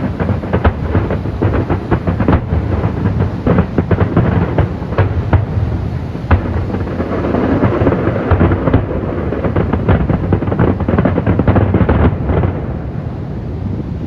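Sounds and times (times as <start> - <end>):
continuous rumble: 0.0 - 14.0
fireworks bangs and crackles: 0.0 - 14.0.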